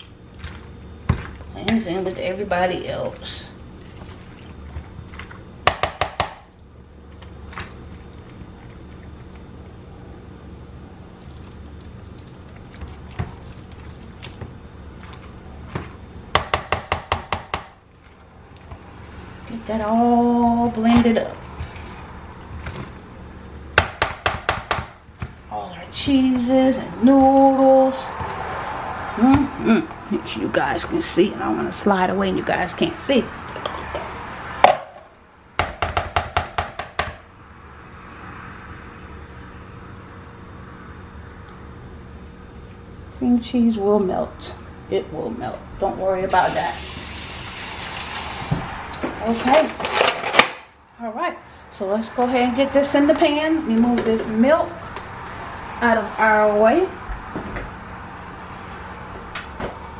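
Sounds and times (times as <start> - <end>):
low steady hum: 0.0 - 36.0, 36.6 - 59.9.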